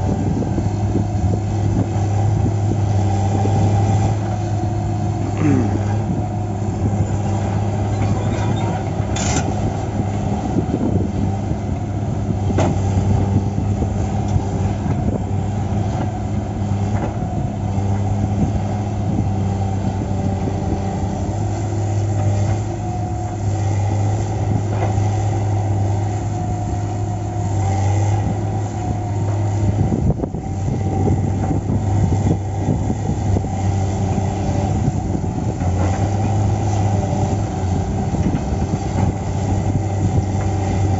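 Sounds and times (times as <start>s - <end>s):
diesel crane engine running: 0.0s - 40.9s.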